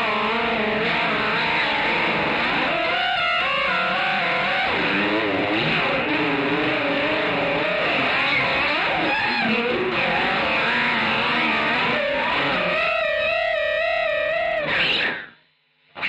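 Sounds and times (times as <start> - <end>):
electric guitar with chorus effect: 0.0 - 16.0.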